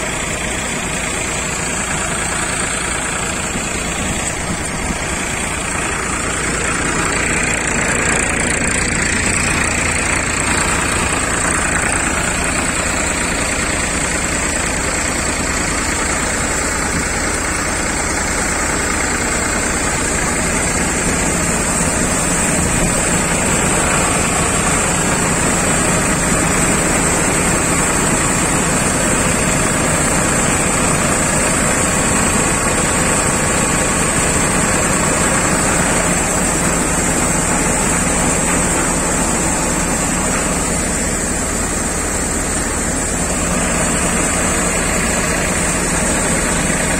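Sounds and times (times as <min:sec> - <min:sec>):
chaff rushing from blower: 0:00.0 - 0:46.9
tractor diesel engine under load: 0:00.0 - 0:46.9.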